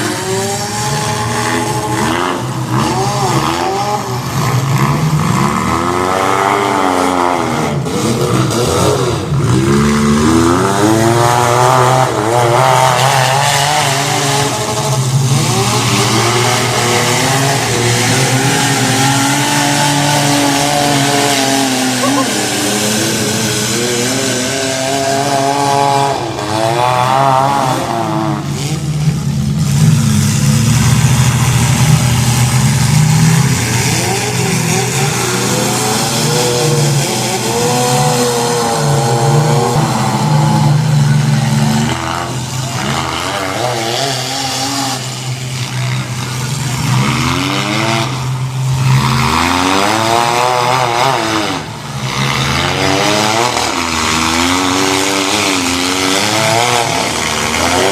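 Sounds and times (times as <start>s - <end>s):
car engines revving: 0.0s - 57.9s.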